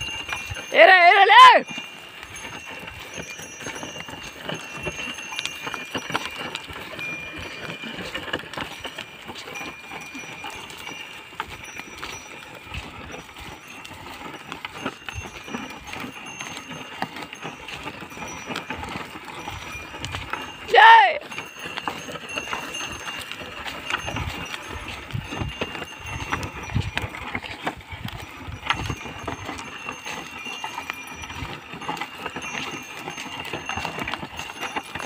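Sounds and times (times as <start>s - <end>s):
faint high ringing tones: 0.0s - 35.0s
hooves and plough scraping soil: 0.0s - 35.0s.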